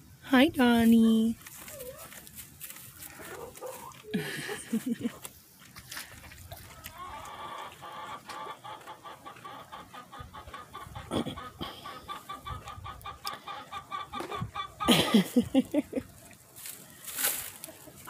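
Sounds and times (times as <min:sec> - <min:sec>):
chickens clucking: 0:01.6 - 0:05.3, 0:06.4 - 0:18.0.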